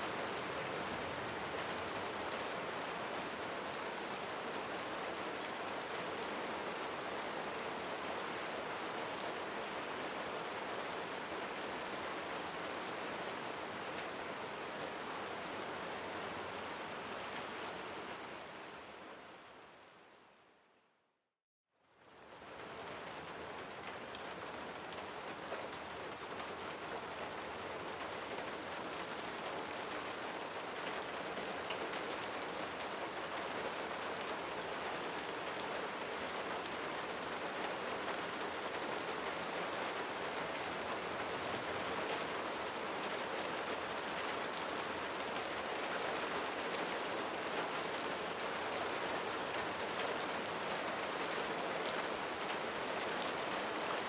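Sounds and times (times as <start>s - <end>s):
steady rain: 0.0s - 20.8s, 22.0s - 54.0s.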